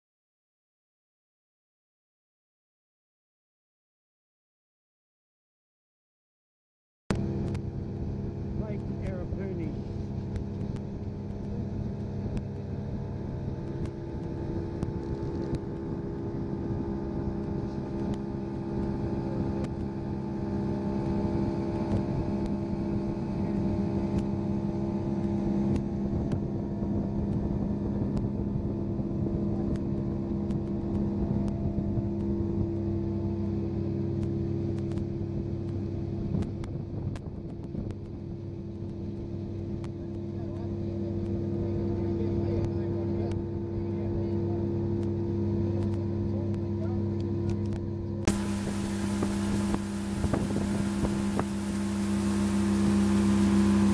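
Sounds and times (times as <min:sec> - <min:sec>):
outboard motor running: 0:07.1 - 0:53.9.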